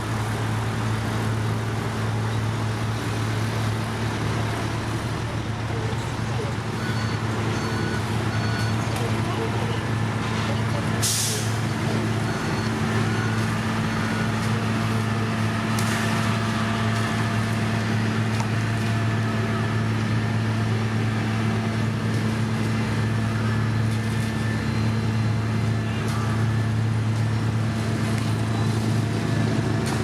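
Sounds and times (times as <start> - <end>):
diesel machinery engine hum: 0.0 - 30.0.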